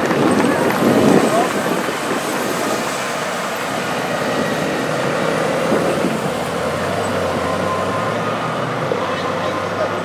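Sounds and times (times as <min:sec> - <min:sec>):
motorcycle engines running: 0:00.0 - 0:10.0.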